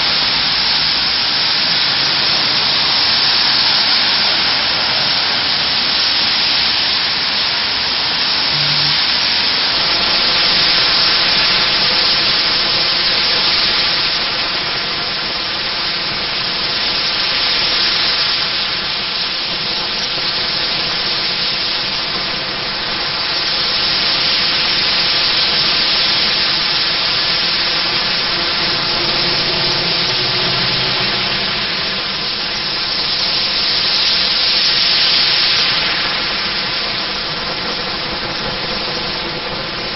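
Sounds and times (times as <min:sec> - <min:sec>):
tyres hissing on wet road: 0:00.0 - 0:39.9.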